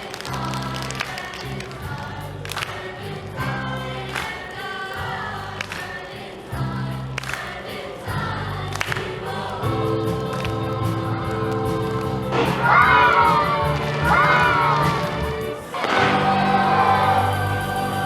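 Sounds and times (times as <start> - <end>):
music with singing voices: 0.0 - 18.0.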